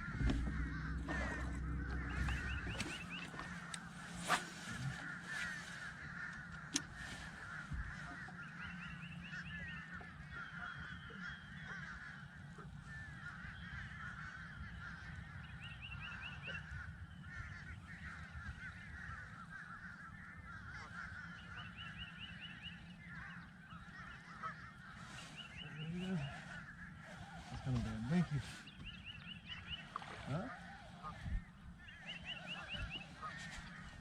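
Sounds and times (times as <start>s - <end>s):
low steady hum: 0.0s - 34.0s
waterfowl honking: 0.0s - 34.0s.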